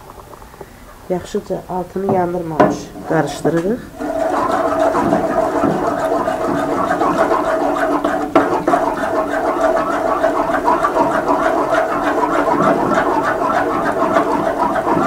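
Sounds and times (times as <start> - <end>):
steady hum: 0.0 - 15.0
spoon stirring thick batter: 1.9 - 15.0.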